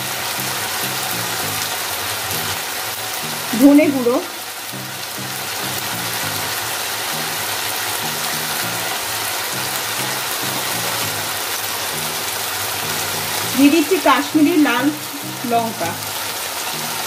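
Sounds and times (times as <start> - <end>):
low background music: 0.0 - 17.0
onions sizzling in hot oil: 0.0 - 17.0.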